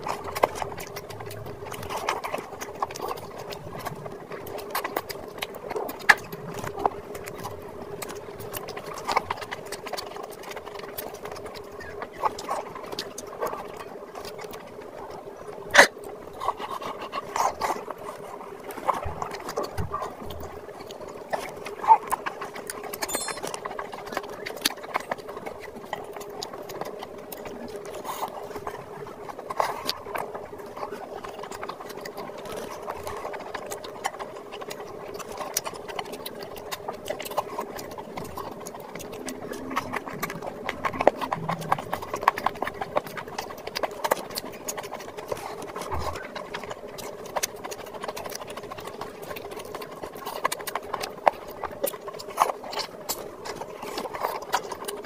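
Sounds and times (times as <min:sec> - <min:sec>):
wet chewing and lip smacking: 0:00.0 - 0:55.0.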